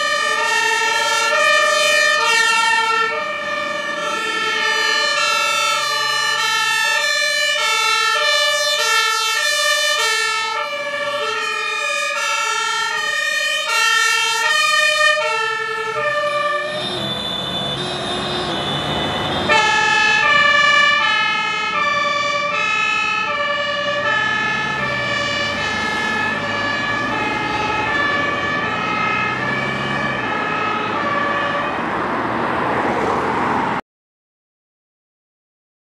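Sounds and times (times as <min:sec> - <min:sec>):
two-tone sirens: 0:00.0 - 0:33.8
vehicle engine and road noise: 0:00.0 - 0:33.8.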